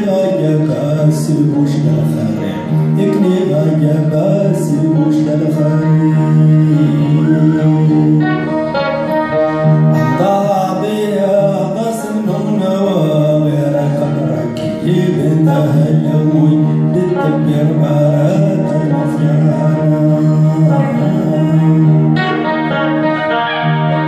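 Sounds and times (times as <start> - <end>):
acoustic guitar: 0.0 - 24.0
droning accompaniment: 0.0 - 24.0
man singing: 0.0 - 24.0.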